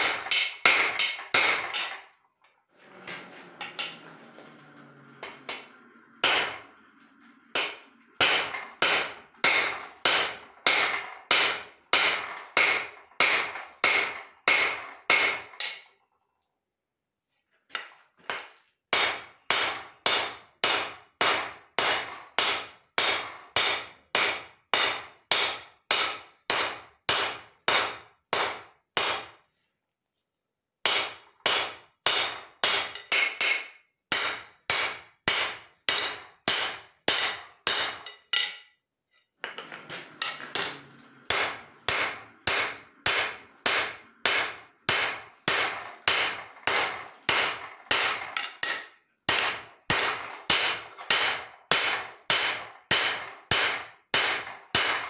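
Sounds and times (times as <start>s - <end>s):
hammer striking hot steel: 0.0s - 2.1s, 5.5s - 6.7s, 7.5s - 15.8s, 18.3s - 29.4s, 30.9s - 38.7s, 40.2s - 55.0s.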